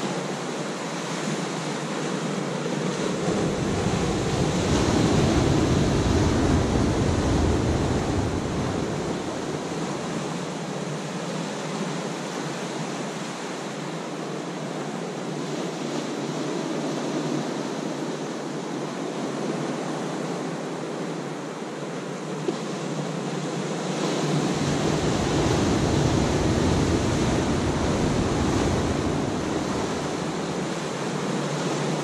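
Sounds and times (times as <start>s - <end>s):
ocean surf breaking on rocks: 0.0s - 32.0s.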